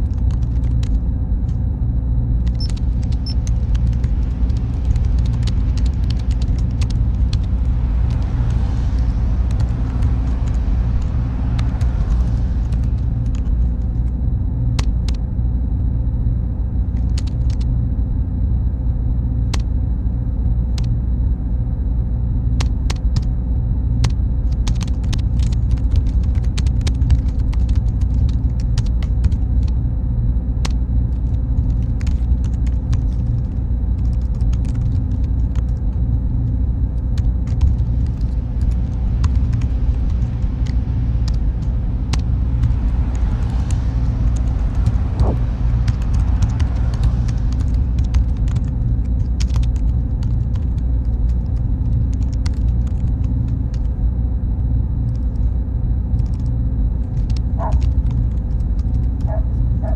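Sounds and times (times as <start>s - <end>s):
faint high whine: 0.0s - 59.9s
machines and cooling fans humming: 0.0s - 59.9s.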